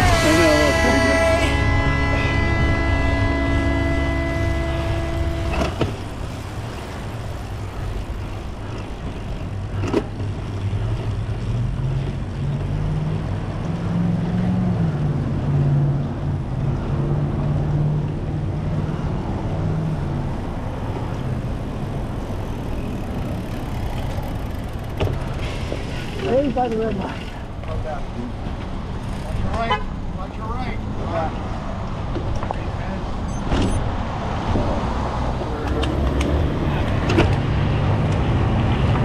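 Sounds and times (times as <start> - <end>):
rush of cars and tyres: 0.0 - 39.0
vehicle engine hum: 0.0 - 39.0.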